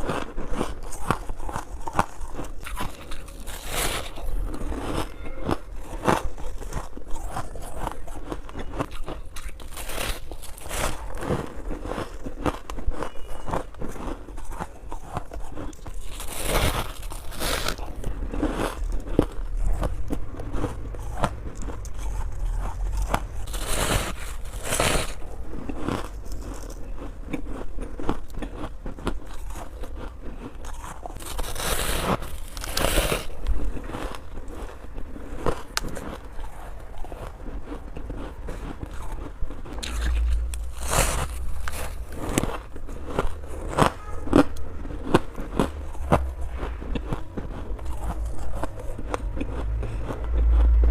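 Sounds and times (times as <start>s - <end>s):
crunching ice chewing: 0.0s - 50.9s.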